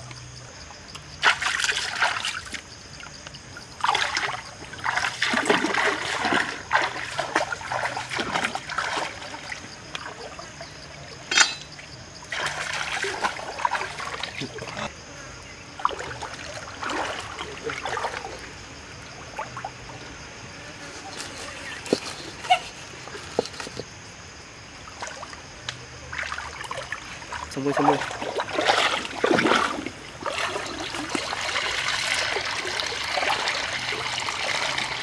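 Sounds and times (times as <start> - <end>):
stream water splashing: 1.1 - 20.4, 24.7 - 35.0.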